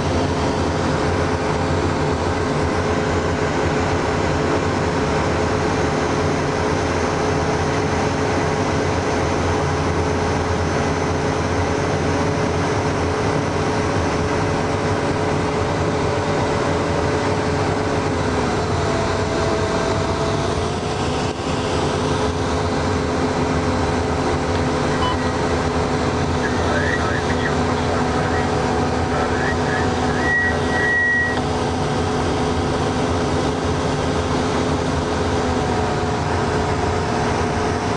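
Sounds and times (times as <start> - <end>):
diesel engine drone: 0.0 - 37.9
drivetrain whining: 0.0 - 37.9.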